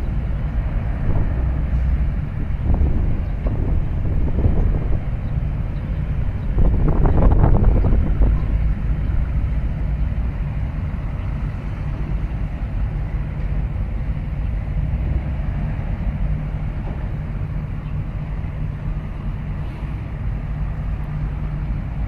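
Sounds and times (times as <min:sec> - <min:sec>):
low rumble of port: 0:00.0 - 0:22.0.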